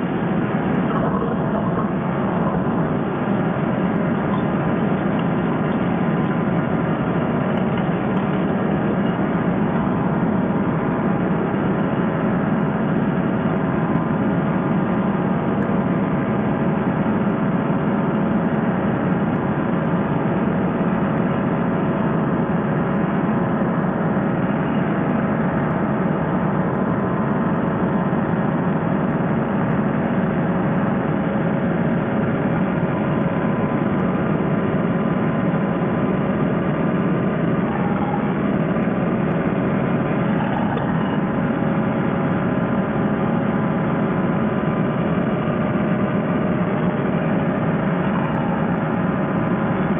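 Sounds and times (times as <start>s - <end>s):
paramotor engine and propeller running: 0.0s - 49.9s.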